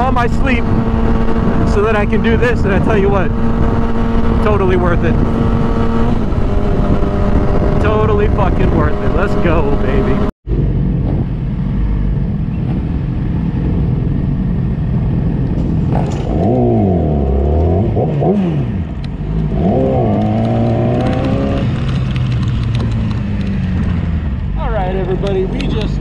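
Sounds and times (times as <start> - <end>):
motorcycle engine revving: 0.0 - 26.0
wind noise: 0.0 - 26.0.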